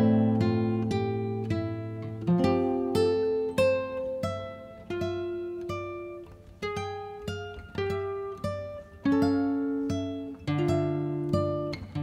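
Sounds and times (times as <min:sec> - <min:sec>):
plucked guitar melody: 0:00.0 - 0:12.0.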